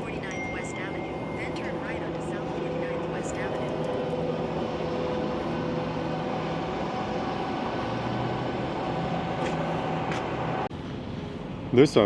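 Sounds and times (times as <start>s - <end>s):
road noise: 0.0s - 12.0s
truck diesel engine droning: 0.0s - 12.0s.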